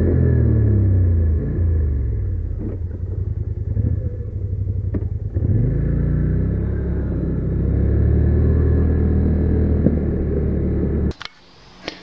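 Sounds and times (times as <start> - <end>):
atv engine idling and revving: 0.0 - 12.0.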